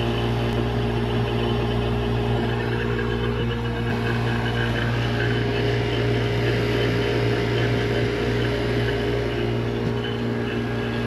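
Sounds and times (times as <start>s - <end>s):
vacuum pump motor hum: 0.0s - 11.0s.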